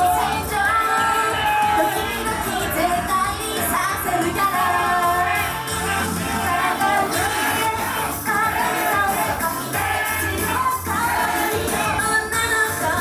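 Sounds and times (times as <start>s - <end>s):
female group singing: 0.0s - 13.0s
pop backing track: 0.0s - 13.0s.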